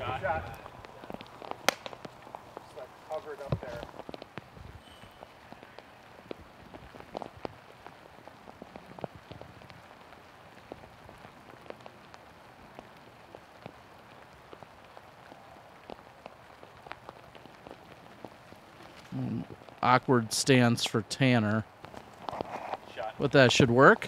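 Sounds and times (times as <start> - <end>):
light rain falling: 0.0 - 24.0.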